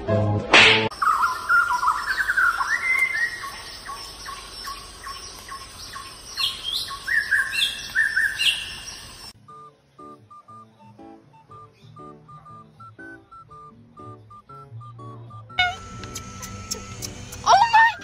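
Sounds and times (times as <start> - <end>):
songbirds chirping and whistling: 0.9 - 18.0.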